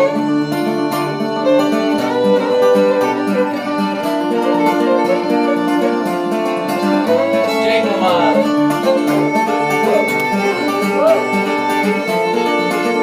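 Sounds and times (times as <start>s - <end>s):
fiddle melody: 0.0s - 13.0s
guitar accompaniment: 0.0s - 13.0s.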